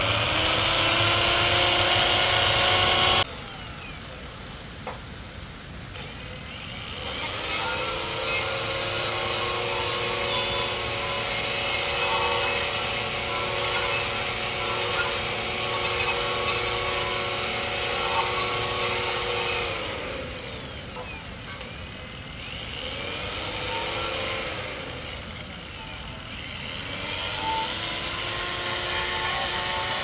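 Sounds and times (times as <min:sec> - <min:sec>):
power tool motor grinding: 0:00.0 - 0:04.0, 0:06.0 - 0:30.0.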